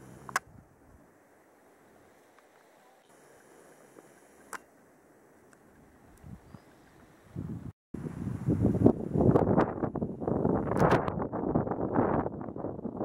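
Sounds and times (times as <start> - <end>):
faint outdoor hiss: 0.0 - 12.2.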